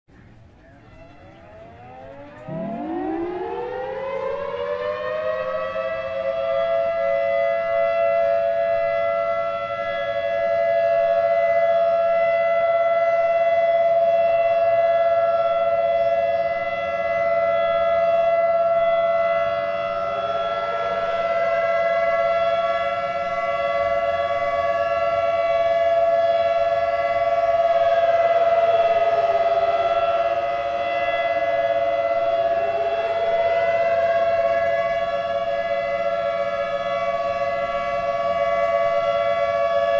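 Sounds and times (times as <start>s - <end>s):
two-tone siren wail: 0.2s - 39.9s
rising siren tone: 0.6s - 39.9s.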